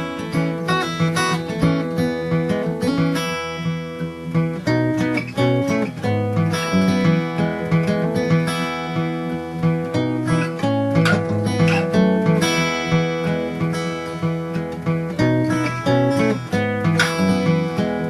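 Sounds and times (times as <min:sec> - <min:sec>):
fingerstyle acoustic guitar: 0:00.0 - 0:18.0.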